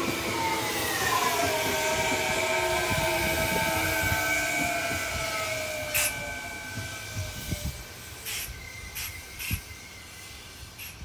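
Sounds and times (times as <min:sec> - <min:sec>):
electric train motor whine: 0:00.0 - 0:11.0
train wheels rumbling on rails: 0:00.0 - 0:11.0.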